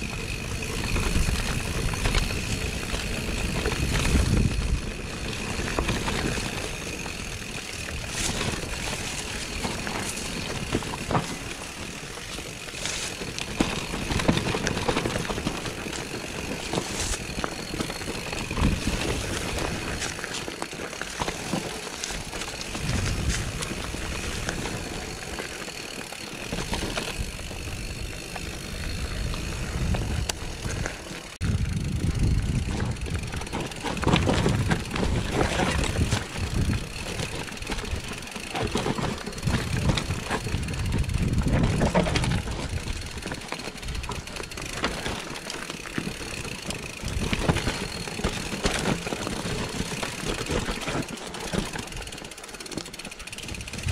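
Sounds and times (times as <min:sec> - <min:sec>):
bike rattling over stones: 0:00.0 - 0:53.9
bike tyres rumbling on rocks: 0:00.0 - 0:53.9.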